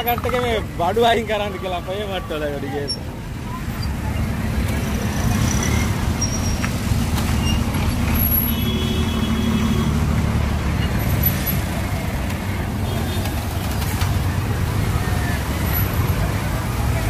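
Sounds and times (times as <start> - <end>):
large vehicle engine rumbling: 0.0 - 17.0
road traffic: 0.0 - 17.0.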